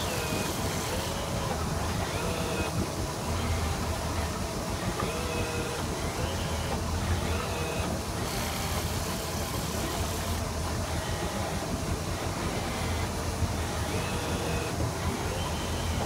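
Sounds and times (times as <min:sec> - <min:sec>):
boat engine humming: 0:00.0 - 0:16.0
water noise: 0:00.0 - 0:16.0
wind: 0:00.0 - 0:16.0.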